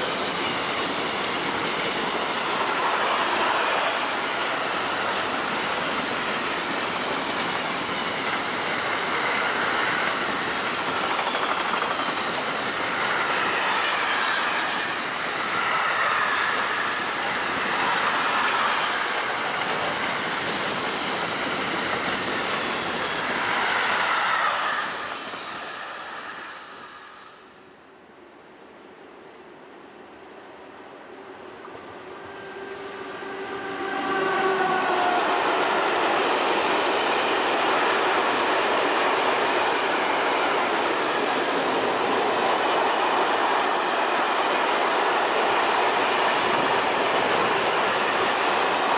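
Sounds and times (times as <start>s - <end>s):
train wheels on rails: 0.0s - 27.8s, 28.6s - 48.9s.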